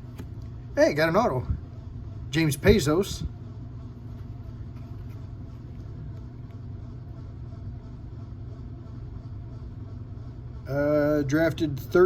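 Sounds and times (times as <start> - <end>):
laundry machine humming: 0.0 - 12.0.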